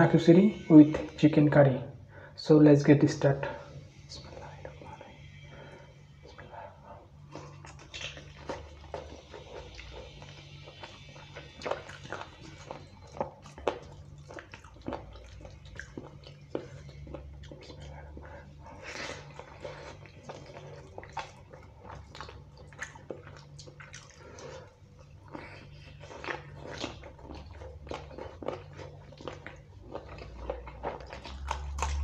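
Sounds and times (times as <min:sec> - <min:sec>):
steady low hum: 0:00.0 - 0:32.0
chewing: 0:03.4 - 0:32.0.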